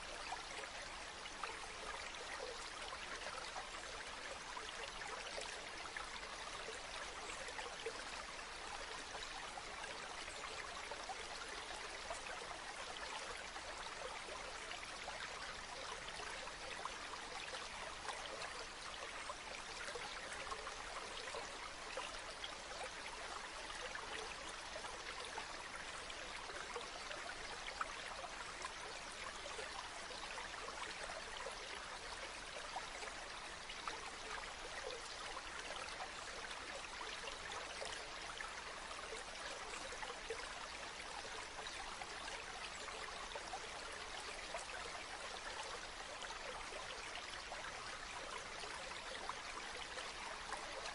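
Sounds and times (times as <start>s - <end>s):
small splashes and trickles: 0.0s - 50.9s.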